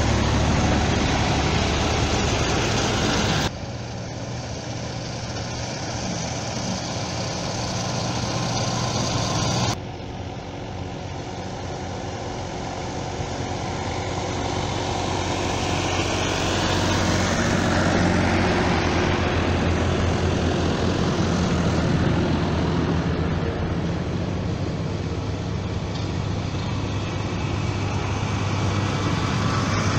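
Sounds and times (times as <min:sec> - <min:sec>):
tractor engines running: 0:00.0 - 0:29.9.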